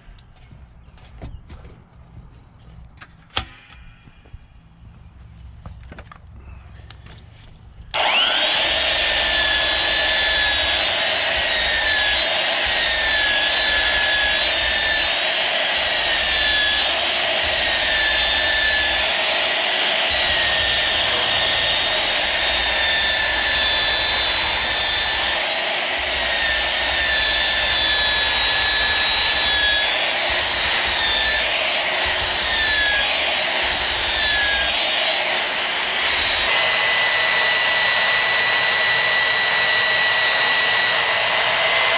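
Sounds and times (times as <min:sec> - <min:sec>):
belt sander whining: 0:06.9 - 0:41.9.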